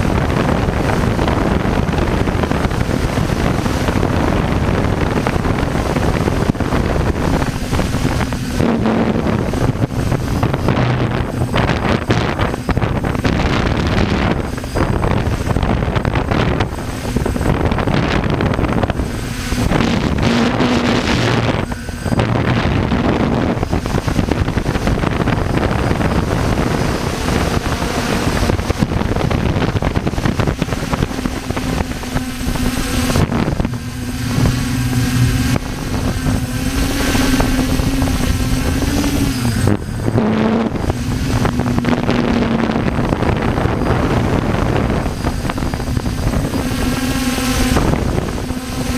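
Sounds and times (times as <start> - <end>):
helicopter engine and rotor hum: 0.0 - 48.9
wind noise on microphone: 0.0 - 48.9.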